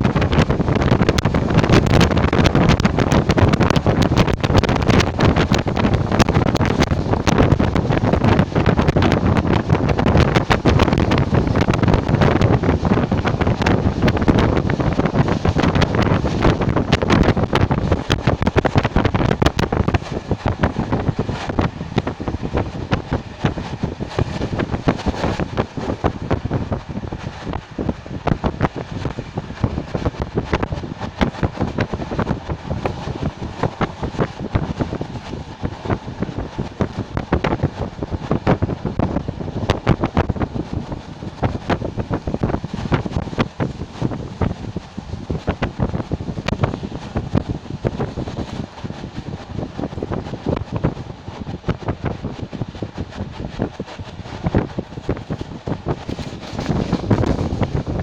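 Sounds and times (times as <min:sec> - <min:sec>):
passenger train on track: 0:00.0 - 0:58.0
wind buffeting microphone: 0:00.0 - 0:58.0.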